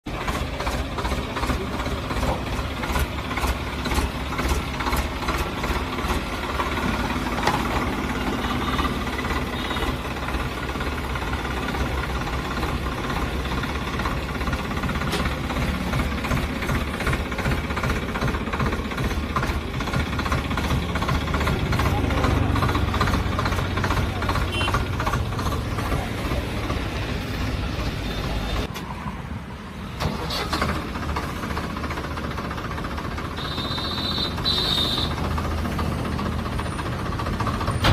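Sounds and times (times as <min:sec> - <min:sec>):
tractor engine knocking clatter: 0:00.0 - 0:28.7, 0:30.0 - 0:37.9.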